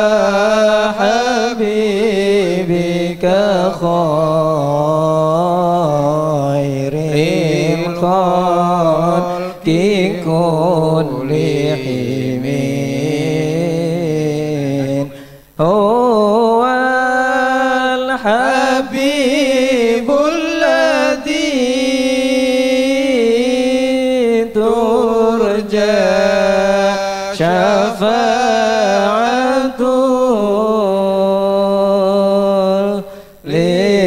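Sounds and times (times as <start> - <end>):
person chanting over loudspeaker: 0.0 - 34.0.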